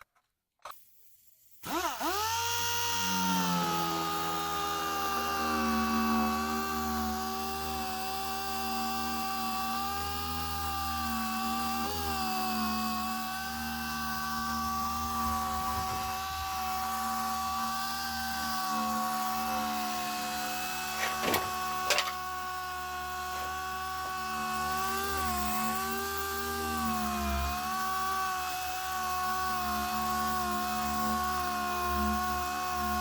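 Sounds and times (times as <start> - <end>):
power tool sanding: 1.7 - 33.0.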